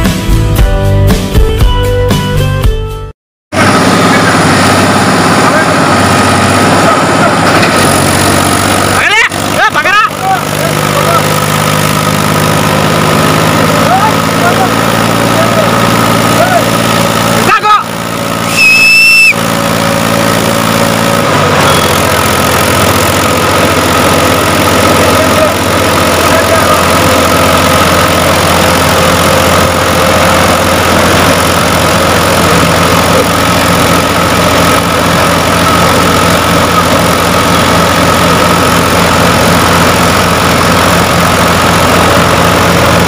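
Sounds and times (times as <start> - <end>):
diesel tractor engines running hard: 3.5 - 43.0.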